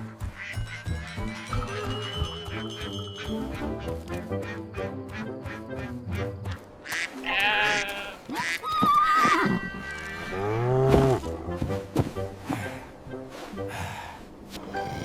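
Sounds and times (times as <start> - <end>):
light background music: 0.0 - 15.0.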